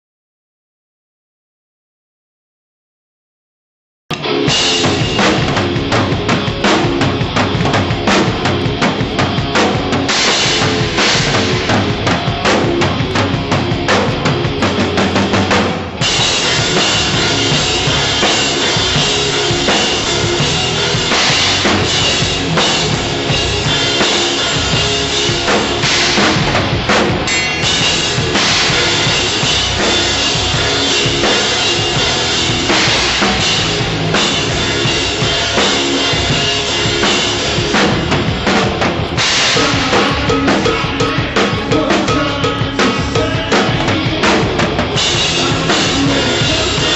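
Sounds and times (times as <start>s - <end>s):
rock band playing: 4.1s - 46.9s
bass drum: 4.2s - 46.9s.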